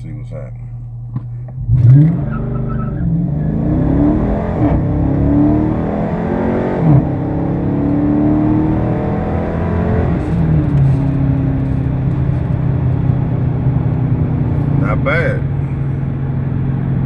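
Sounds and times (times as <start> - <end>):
car engine accelerating hard: 1.5 - 17.0.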